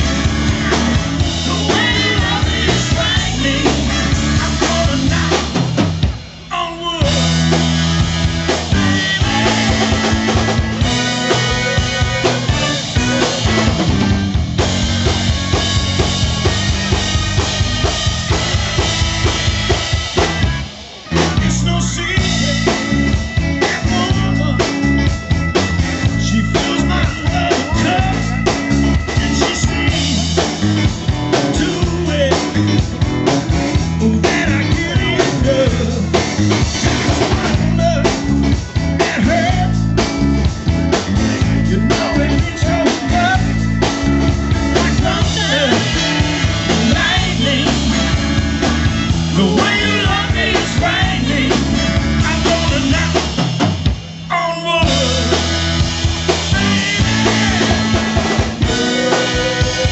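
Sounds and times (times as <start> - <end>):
bass: 0.0 - 59.9
drum kit: 0.0 - 59.9
guitar: 0.0 - 59.9.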